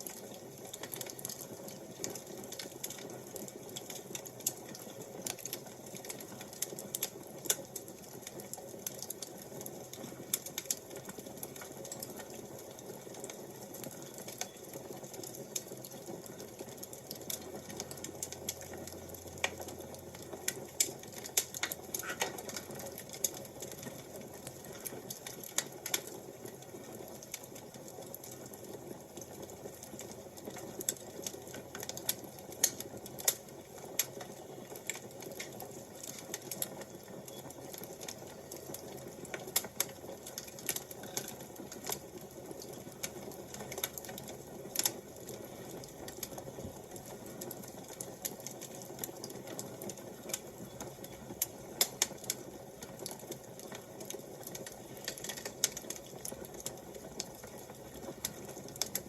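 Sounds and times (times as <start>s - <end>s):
sharp fire pops and snaps: 0.0s - 59.0s
wood fire crackling: 0.0s - 59.0s.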